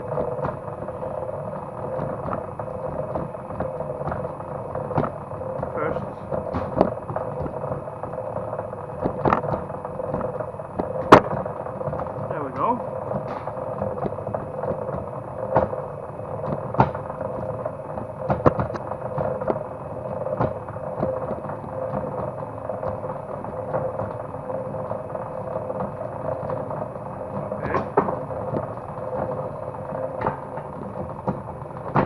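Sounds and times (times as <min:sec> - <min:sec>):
cable stripping machine humming: 0:00.0 - 0:32.0
sharp clicks and knocks: 0:00.0 - 0:32.0.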